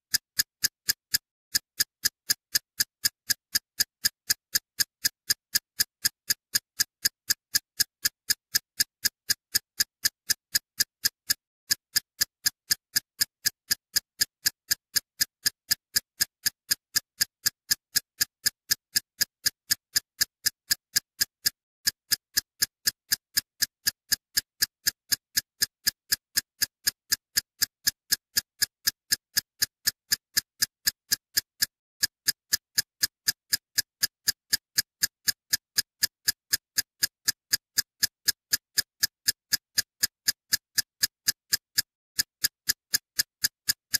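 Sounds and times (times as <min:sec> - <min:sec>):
steady ticking clicks: 0:00.0 - 0:43.9.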